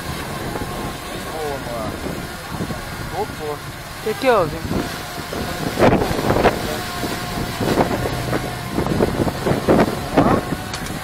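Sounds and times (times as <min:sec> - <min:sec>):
drone propellers whining: 0:00.0 - 0:11.0
wind buffeting microphone: 0:00.0 - 0:11.0.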